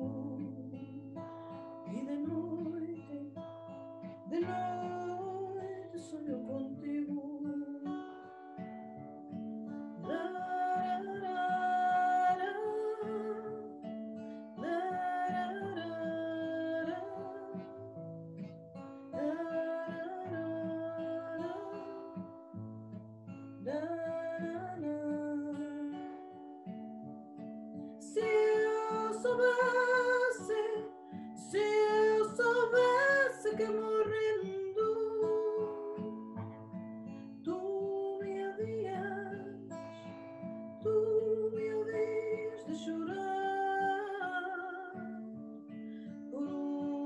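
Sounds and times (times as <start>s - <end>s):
woman singing: 0.0s - 8.7s, 10.0s - 22.4s, 23.6s - 26.8s, 27.8s - 47.0s
acoustic guitar: 0.0s - 47.0s.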